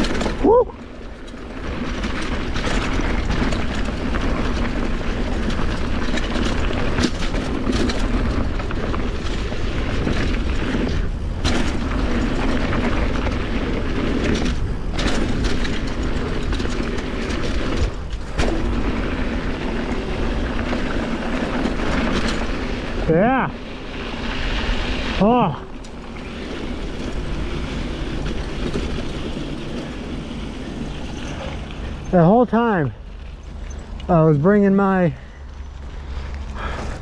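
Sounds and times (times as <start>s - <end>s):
bike rattling: 0.0s - 37.0s
tyres rumbling on dirt: 0.0s - 37.0s.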